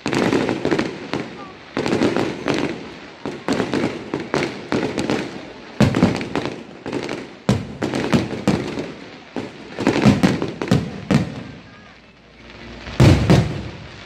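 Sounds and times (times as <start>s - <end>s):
fireworks bangs and crackles: 0.0s - 14.0s
loud fireworks booms: 0.0s - 14.0s.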